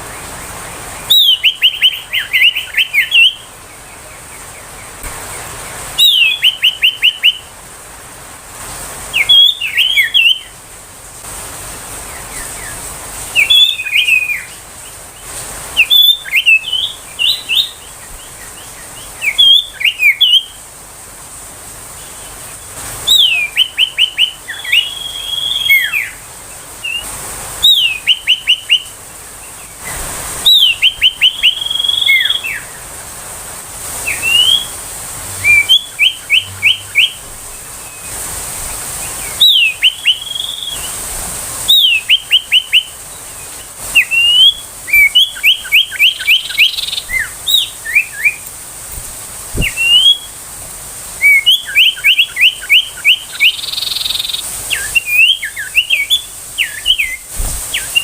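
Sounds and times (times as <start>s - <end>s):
bird calling with falling whistles: 1.0s - 7.6s, 9.1s - 10.6s, 12.1s - 20.6s, 22.0s - 32.9s, 34.0s - 38.2s, 39.0s - 41.0s, 41.6s - 48.4s, 49.6s - 50.4s, 51.2s - 58.0s.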